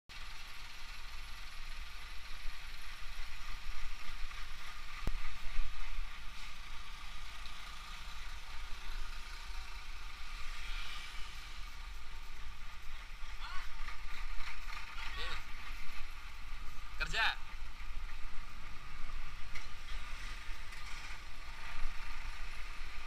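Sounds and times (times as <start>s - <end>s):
motorcycle engine running: 0.1s - 23.0s
wind and road noise: 0.1s - 23.0s.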